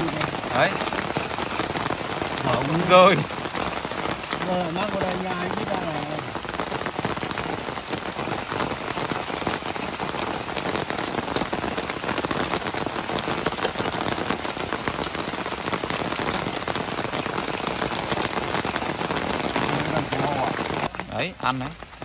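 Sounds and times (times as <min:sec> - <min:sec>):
steady rainfall: 0:00.0 - 0:22.0.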